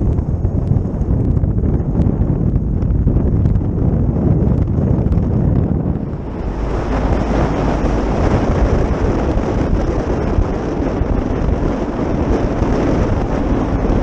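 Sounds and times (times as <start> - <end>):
vehicle rumbling: 0.0 - 14.0
wind buffeting microphone: 0.0 - 14.0.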